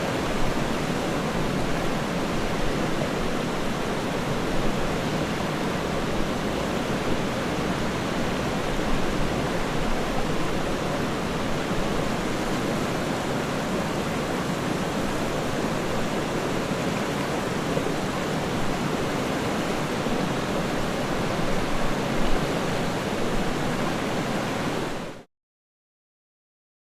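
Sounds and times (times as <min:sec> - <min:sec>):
rushing water hiss: 0:00.0 - 0:25.2.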